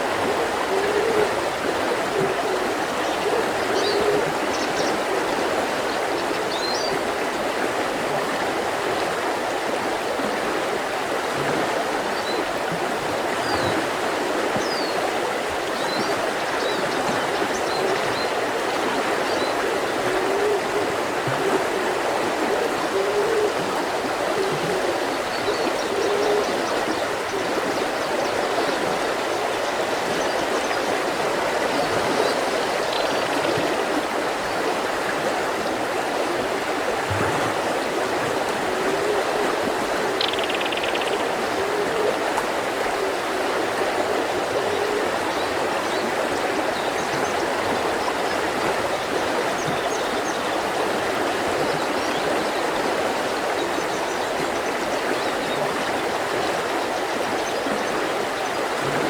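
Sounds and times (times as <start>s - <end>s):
mountain river rushing: 0.0s - 59.0s.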